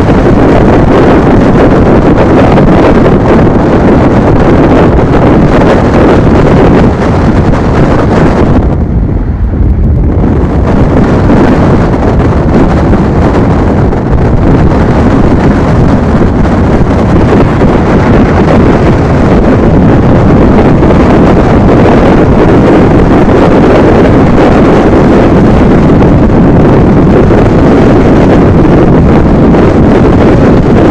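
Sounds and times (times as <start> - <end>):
train rushing along track: 0.0 - 30.9
wind buffeting microphone: 0.0 - 30.9.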